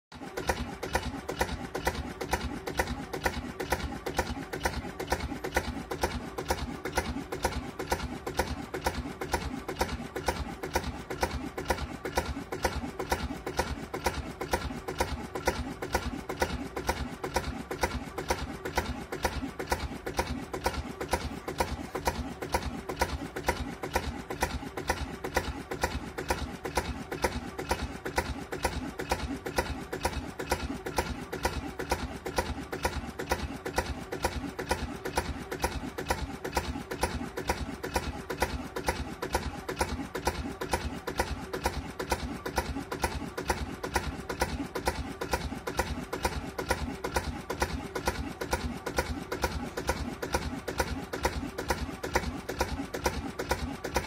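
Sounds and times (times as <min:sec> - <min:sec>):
diesel engine idling: 0:00.1 - 0:54.0.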